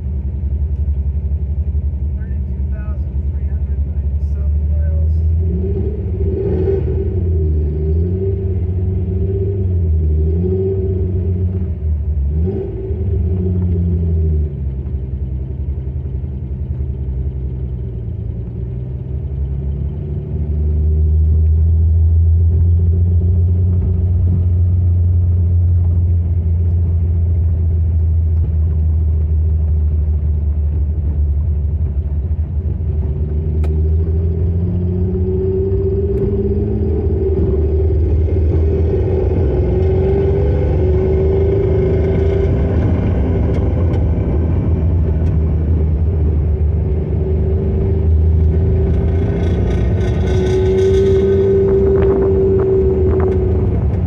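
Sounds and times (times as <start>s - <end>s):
car engine rumble from inside: 0.0s - 54.0s.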